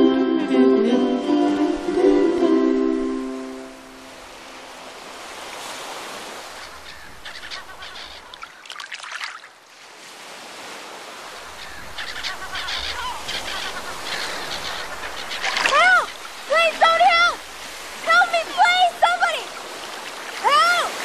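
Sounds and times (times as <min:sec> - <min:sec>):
moving water: 0:01.0 - 0:21.0
water splashing: 0:01.6 - 0:21.0.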